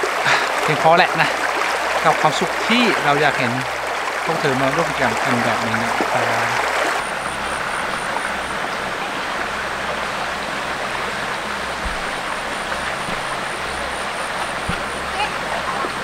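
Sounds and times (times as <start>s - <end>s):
forest stream rushing: 0.0s - 16.0s.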